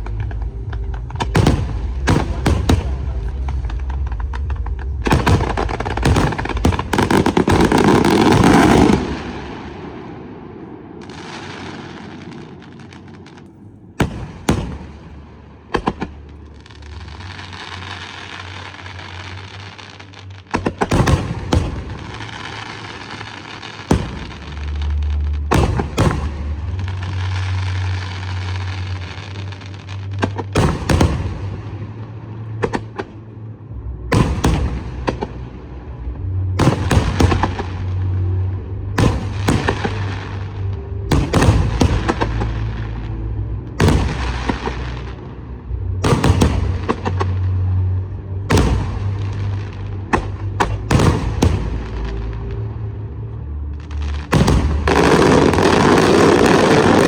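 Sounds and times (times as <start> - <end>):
fireworks crackling and hissing: 0.0 - 57.0.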